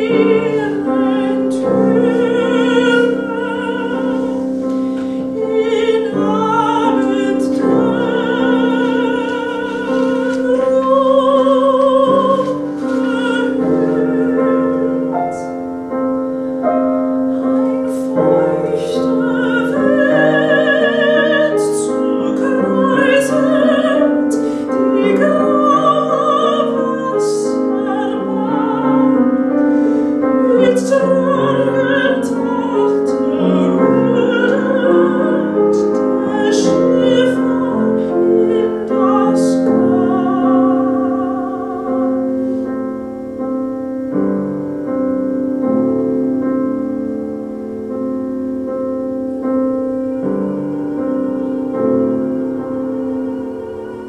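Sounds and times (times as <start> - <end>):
grand piano: 0.0 - 54.0
soprano singing: 0.0 - 54.0.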